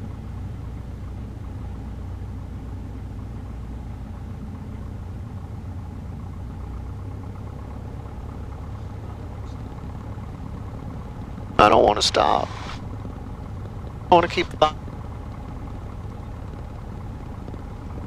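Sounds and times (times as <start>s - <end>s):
aircraft engine and propeller drone: 0.0s - 18.0s.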